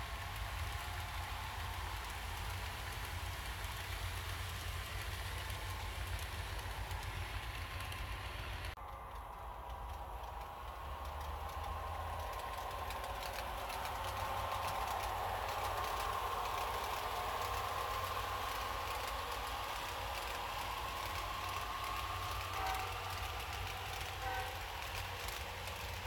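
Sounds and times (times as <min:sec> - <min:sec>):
model train wheels rumbling on rails: 0:00.0 - 0:26.0.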